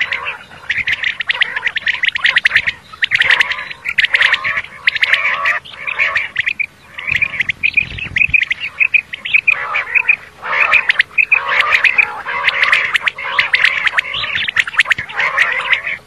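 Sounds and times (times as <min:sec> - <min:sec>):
quail calling: 0:00.0 - 0:16.0.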